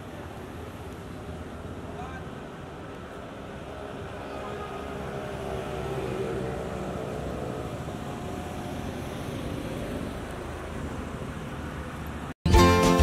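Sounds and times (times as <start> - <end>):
vehicle engines: 0.0 - 12.4
tyres running on road: 0.0 - 12.6.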